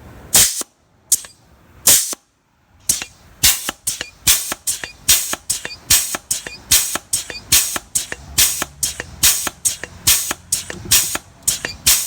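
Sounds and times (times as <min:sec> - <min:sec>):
short sharp air hisses: 0:00.3 - 0:12.0.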